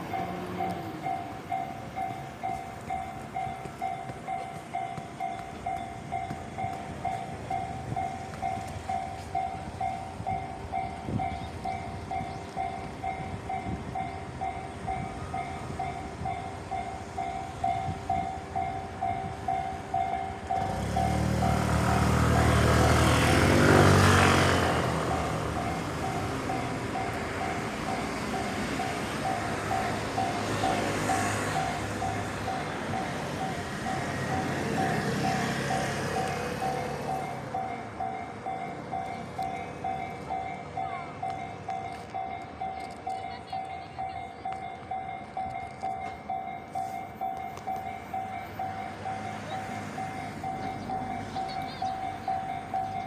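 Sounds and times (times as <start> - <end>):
train rumbling past: 0.0 - 53.0.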